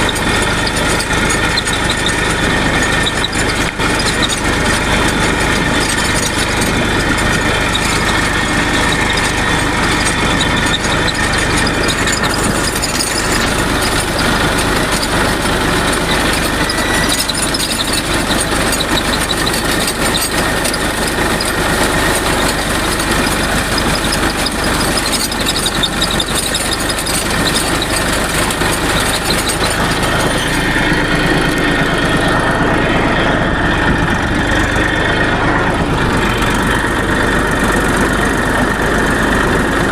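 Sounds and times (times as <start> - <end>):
drivetrain joint noise: 0.0 - 39.9
tractor engine running: 0.0 - 39.9.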